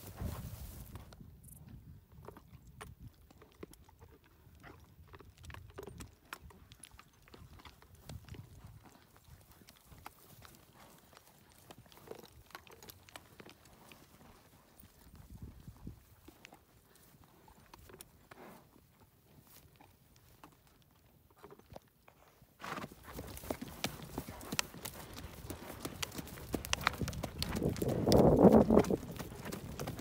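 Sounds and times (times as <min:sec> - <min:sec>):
horse hoofbeats on grass: 0:00.0 - 0:30.0.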